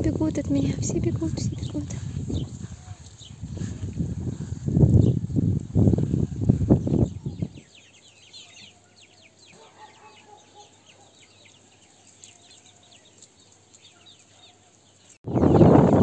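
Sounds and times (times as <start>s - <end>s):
young chickens peeping: 0.1s - 16.0s.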